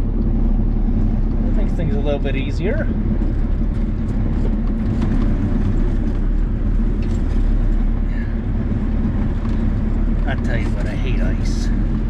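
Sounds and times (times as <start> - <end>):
diesel engine running steadily: 0.0 - 12.0.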